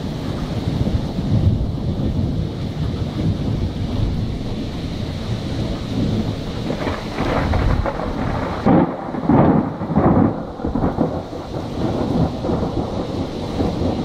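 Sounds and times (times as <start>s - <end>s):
falling rain: 0.0s - 14.0s
thunder rumbling: 0.0s - 14.0s.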